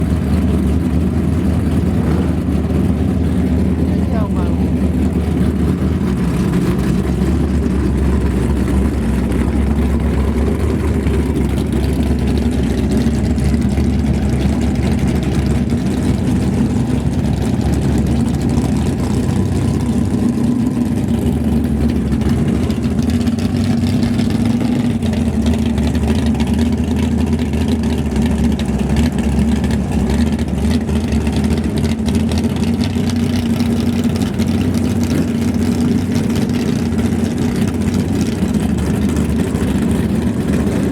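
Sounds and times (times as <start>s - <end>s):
race car engine idling loudly: 0.0s - 40.9s.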